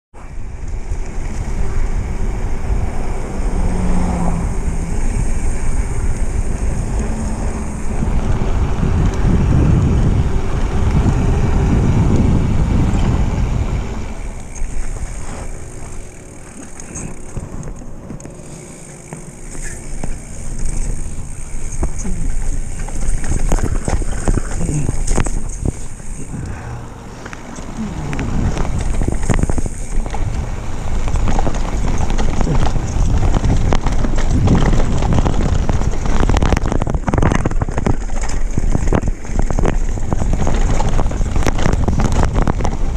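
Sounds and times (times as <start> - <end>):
wind buffeting microphone: 0.1 - 42.9
bike rolling over dirt trail: 0.2 - 42.9.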